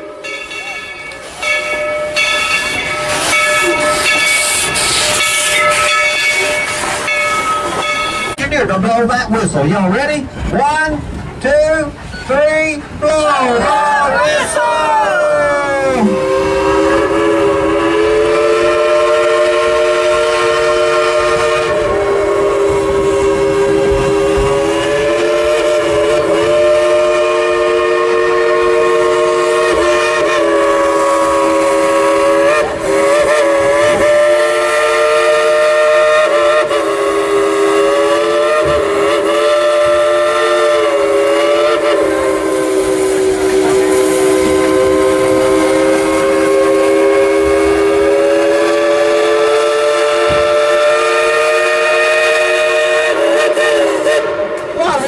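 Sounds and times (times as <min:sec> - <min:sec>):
steam locomotive chime whistle: 0:00.0 - 0:08.5, 0:16.0 - 0:54.8.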